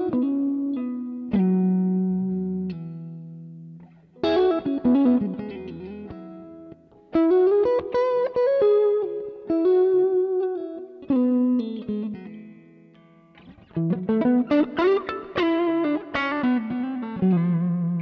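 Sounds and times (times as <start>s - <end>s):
electric guitar lead phrases: 0.0s - 18.0s.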